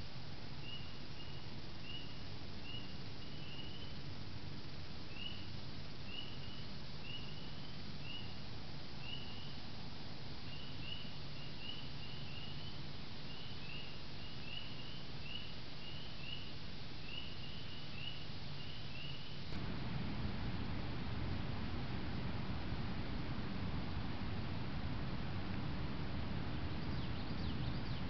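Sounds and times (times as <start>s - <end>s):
camera hiss and hum: 0.0s - 28.0s.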